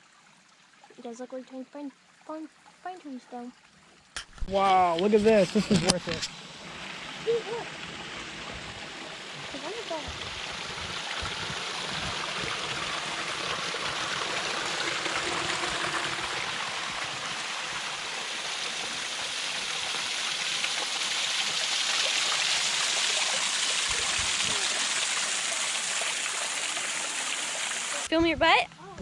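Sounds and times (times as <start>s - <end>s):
stream water rushing: 4.0s - 28.1s.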